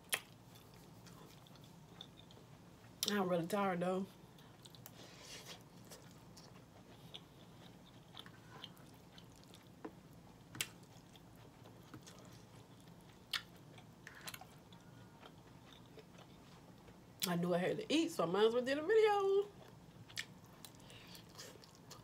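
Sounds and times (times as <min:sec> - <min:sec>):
close-up chewing: 0:00.1 - 0:03.1, 0:04.3 - 0:17.3, 0:19.6 - 0:22.0.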